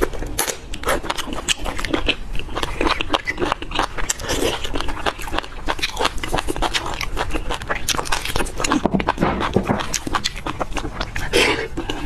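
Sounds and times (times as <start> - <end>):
person chewing clicking mouth sounds: 0.0 - 12.0.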